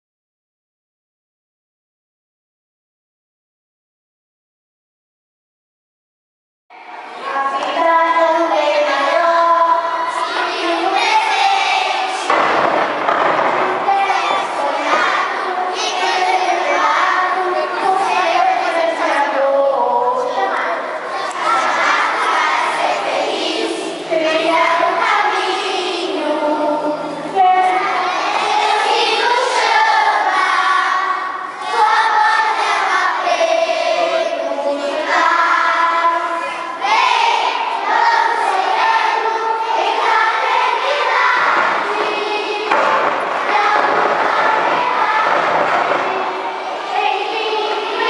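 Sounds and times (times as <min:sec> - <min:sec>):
children singing in unison: 0:06.8 - 0:48.0.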